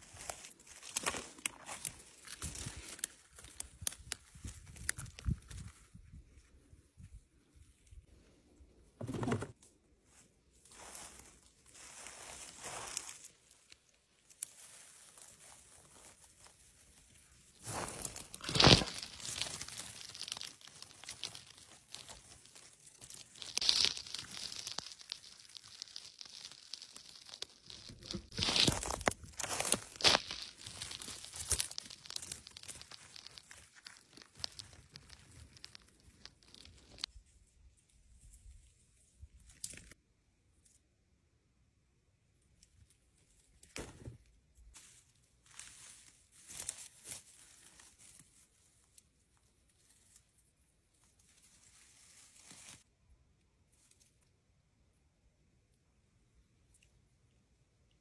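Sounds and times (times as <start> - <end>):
rustling of moss and forest litter: 0.0 - 8.7, 9.6 - 40.0, 42.8 - 53.0, 53.6 - 54.3.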